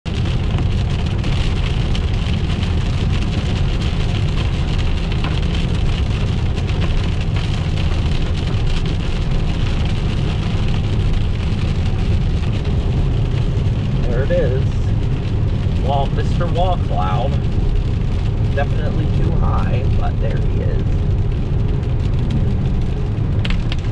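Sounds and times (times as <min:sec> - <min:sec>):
tyres rumbling on wet pavement: 0:00.0 - 0:23.9
rain hitting car windshield: 0:00.1 - 0:23.9.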